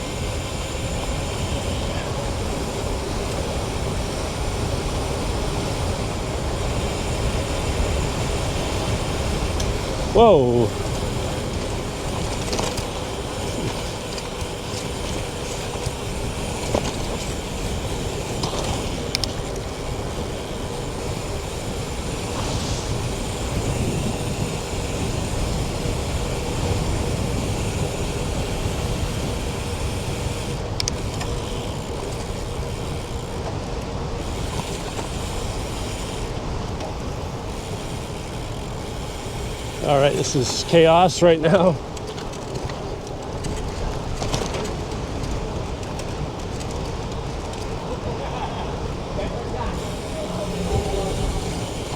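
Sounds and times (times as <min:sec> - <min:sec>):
bicycle freewheel ratcheting: 0:00.0 - 0:51.9
road and traffic rumble: 0:00.0 - 0:51.9.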